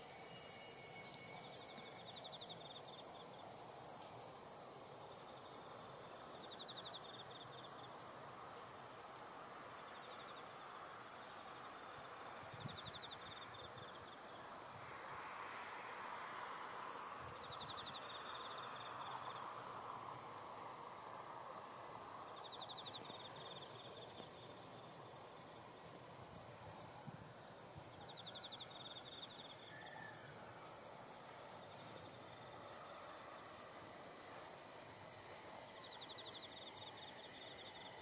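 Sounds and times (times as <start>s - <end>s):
insect pulsed trill: 0.0s - 8.9s, 9.8s - 38.0s
high insect drone: 0.0s - 38.0s.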